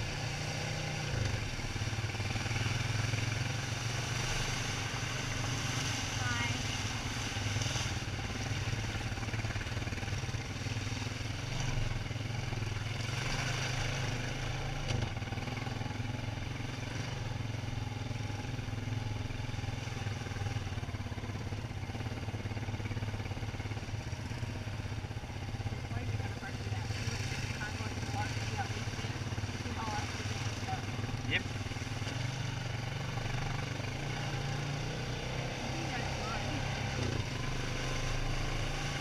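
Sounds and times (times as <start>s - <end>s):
quad bike engine droning: 0.0s - 39.0s
road and rattle noise: 0.0s - 39.0s.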